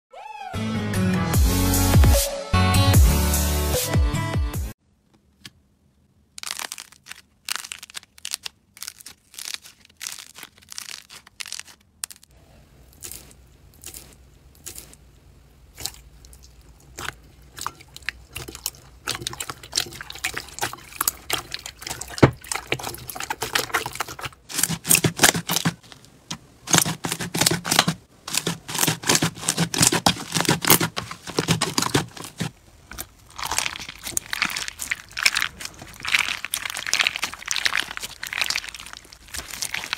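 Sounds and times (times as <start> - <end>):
slime squelching and crackling: 6.4 - 12.3, 12.9 - 15.0, 15.7 - 39.9.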